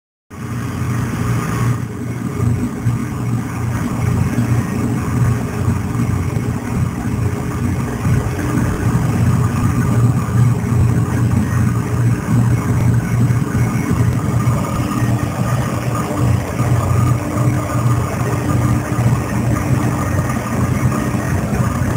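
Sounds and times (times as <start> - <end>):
low mechanical rumble: 0.3 - 21.9.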